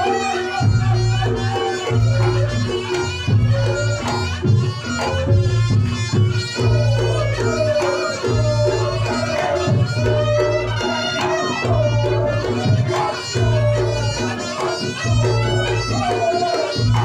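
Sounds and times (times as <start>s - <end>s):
reedy shawm melody: 0.0s - 17.0s.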